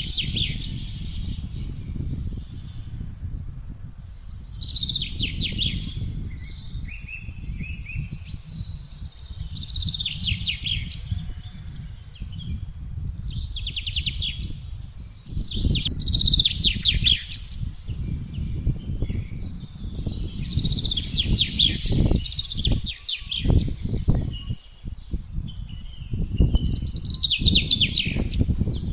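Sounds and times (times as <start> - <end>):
gusting wind rumbling: 0.0 - 28.9
songbirds trilling: 0.0 - 28.9.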